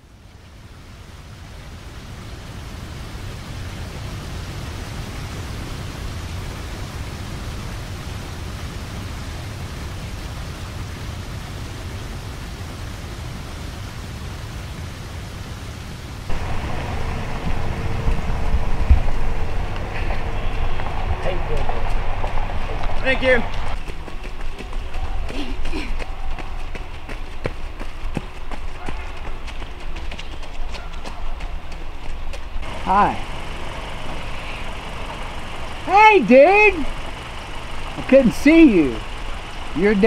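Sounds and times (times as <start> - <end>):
steady rushing noise: 0.0 - 40.0
uneven outdoor sound: 0.0 - 40.0.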